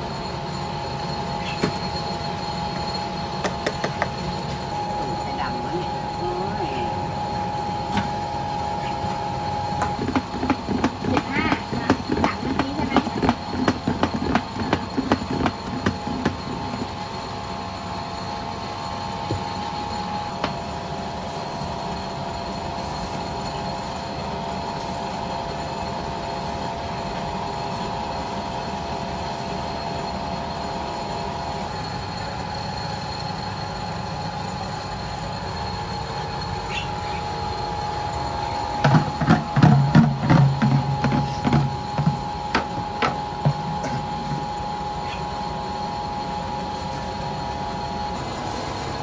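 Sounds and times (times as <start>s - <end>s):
high-pitched mechanical whine: 0.0s - 49.0s.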